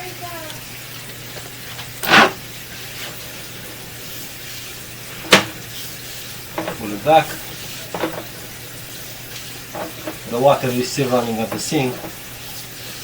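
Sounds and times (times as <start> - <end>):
faucet water running: 0.0 - 13.0.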